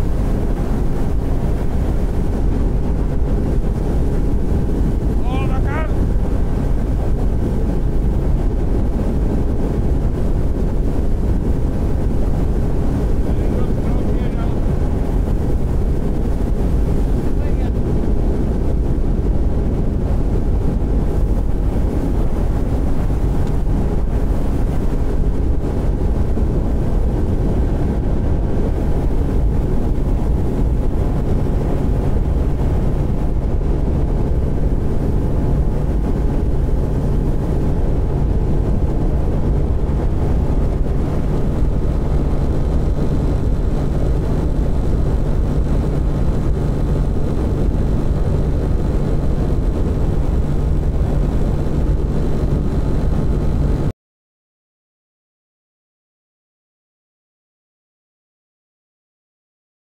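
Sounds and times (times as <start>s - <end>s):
outboard motor drone: 0.0s - 53.9s
water and wind rush: 0.0s - 53.9s.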